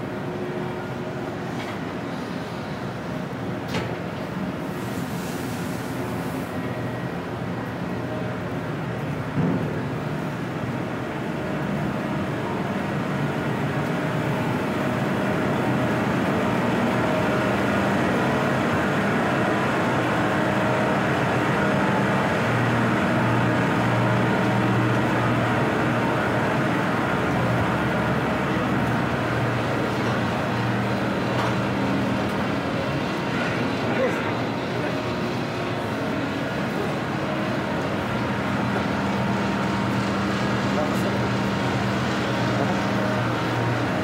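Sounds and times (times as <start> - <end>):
ship machinery hum: 0.0 - 44.0.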